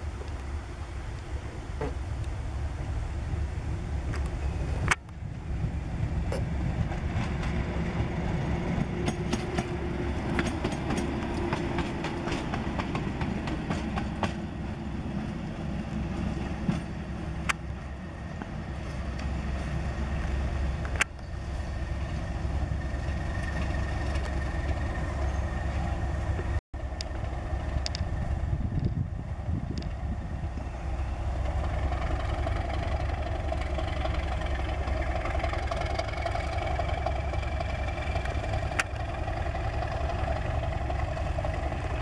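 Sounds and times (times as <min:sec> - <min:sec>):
diesel locomotive engine rumbling: 0:00.0 - 0:42.0.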